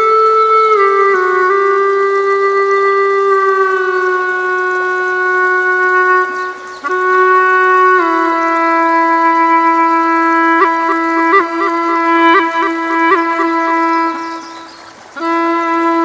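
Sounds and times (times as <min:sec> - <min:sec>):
flute long held notes: 0:00.0 - 0:16.0.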